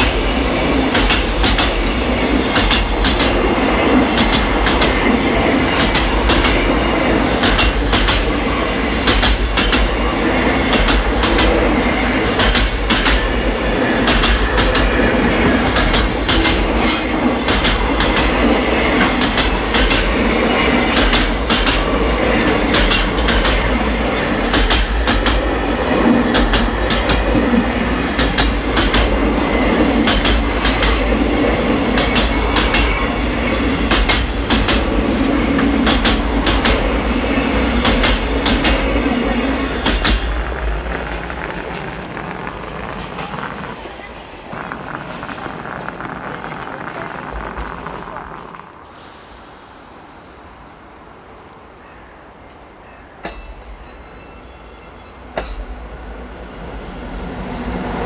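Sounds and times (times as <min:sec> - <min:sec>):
train wheels rumbling on rail: 0:00.0 - 0:51.8, 0:52.5 - 0:58.0.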